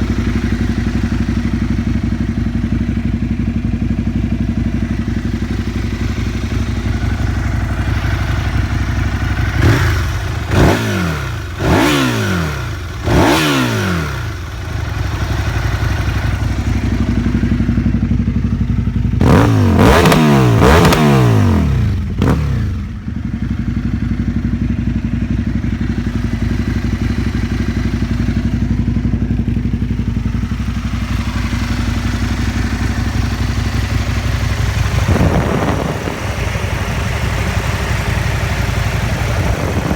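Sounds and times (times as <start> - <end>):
motorcycle engine idling: 0.0 - 39.9
motorcycle throttle blips: 0.0 - 39.9.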